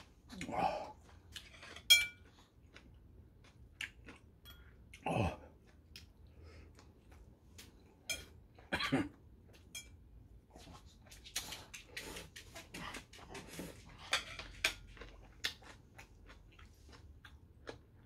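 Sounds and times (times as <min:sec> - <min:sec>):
man chewing: 0:00.0 - 0:08.7, 0:09.3 - 0:18.0.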